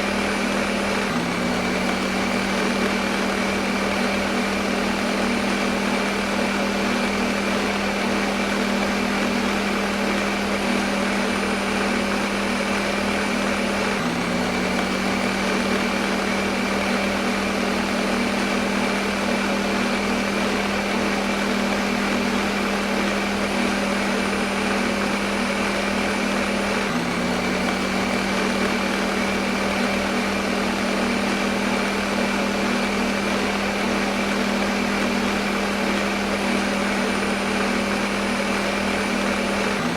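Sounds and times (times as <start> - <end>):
blender motor whirring: 0.0 - 39.9.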